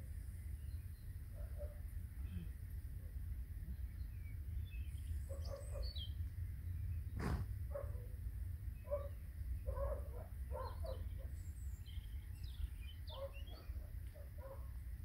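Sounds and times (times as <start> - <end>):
birds chirping: 0.2 - 14.8.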